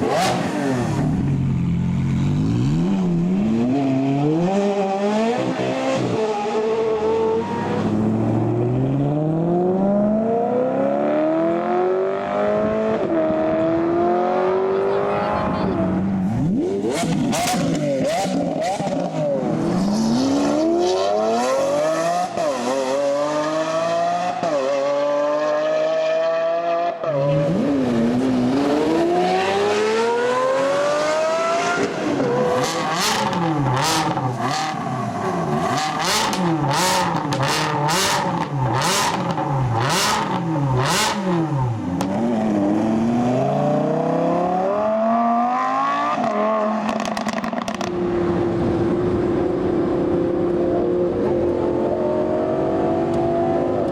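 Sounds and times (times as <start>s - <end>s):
car engines accelerating hard: 0.0s - 53.9s.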